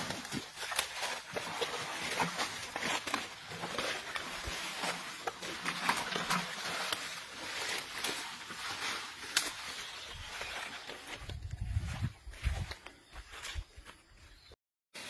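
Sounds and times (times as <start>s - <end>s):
leaves rustling and crackling: 0.0s - 14.3s.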